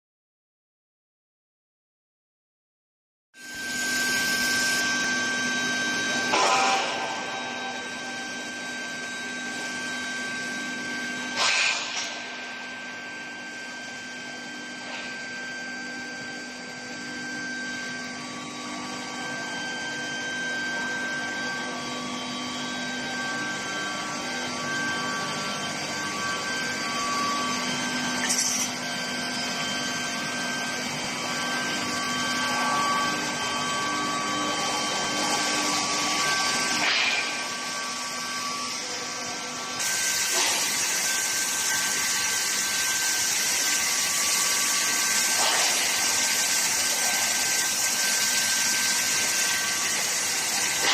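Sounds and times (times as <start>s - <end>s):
machine hum with steady tones: 3.4s - 50.9s.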